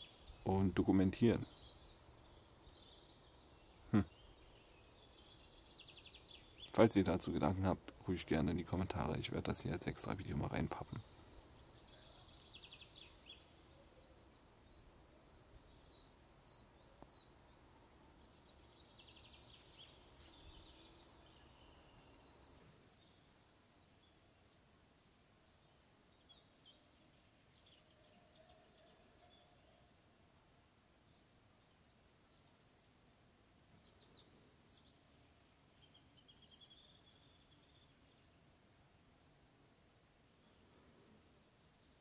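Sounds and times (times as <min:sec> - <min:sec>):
low outdoor hush: 0:00.0 - 0:36.2
songbirds chirping: 0:00.0 - 0:42.0.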